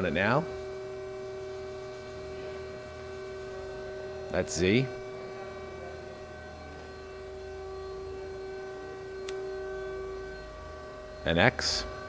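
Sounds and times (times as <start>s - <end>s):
lathe motor whine: 0.0s - 12.0s
machine electrical hum: 0.0s - 12.0s.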